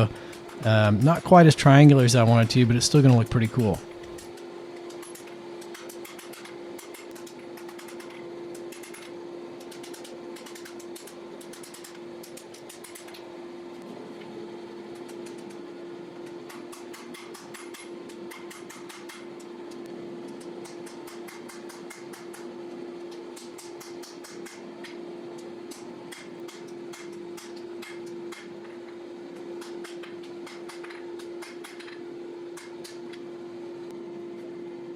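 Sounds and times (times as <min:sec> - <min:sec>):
steady hum: 0:00.0 - 0:34.9.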